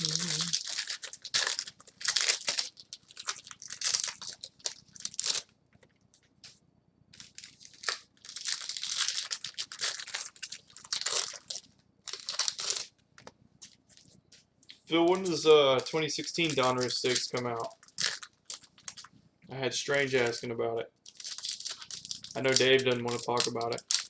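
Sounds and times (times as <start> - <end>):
plastic wrapping crinkling and tearing: 0.0 - 6.5, 7.1 - 14.2, 15.0 - 19.1, 19.8 - 24.0.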